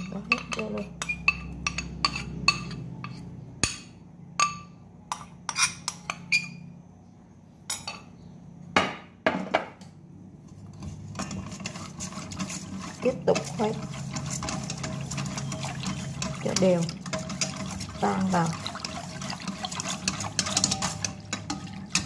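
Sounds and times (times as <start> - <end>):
utensil clinking against bowl: 0.0 - 6.7, 10.7 - 22.0.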